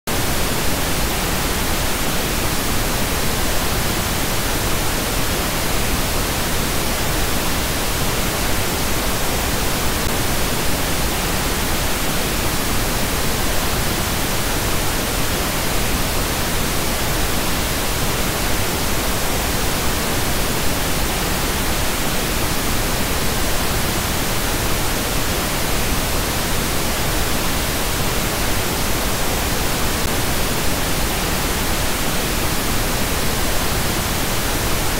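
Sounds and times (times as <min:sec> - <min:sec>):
pink noise hiss: 0:00.1 - 0:34.9.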